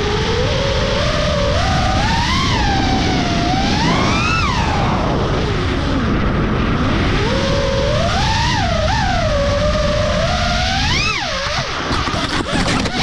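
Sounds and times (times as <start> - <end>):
drone motors whining: 0.0 - 13.0
wind noise: 0.0 - 13.0.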